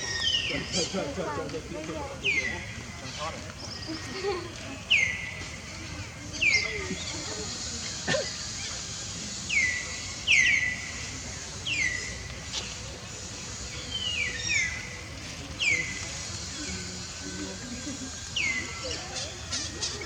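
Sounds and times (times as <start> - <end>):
high chirping calls: 0.0 - 20.0.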